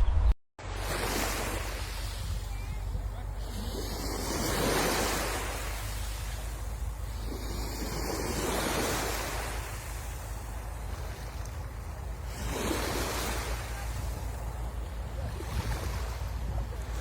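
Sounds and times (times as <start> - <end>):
wind rumble on microphone: 0.0 - 17.0
sea waves breaking on shore: 0.6 - 17.0.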